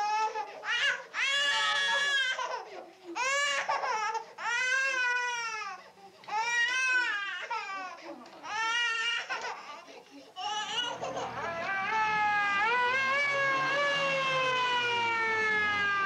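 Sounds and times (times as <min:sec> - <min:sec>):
infant crying: 0:00.0 - 0:16.0.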